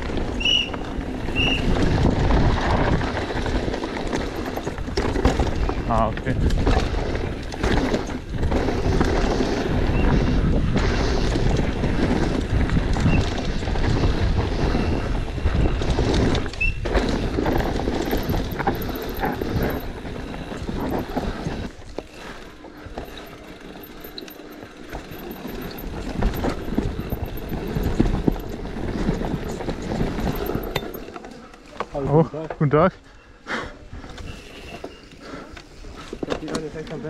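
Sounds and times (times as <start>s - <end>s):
bike clattering over bumps: 0.0s - 31.4s
tyres rolling over loose dirt: 0.0s - 32.1s.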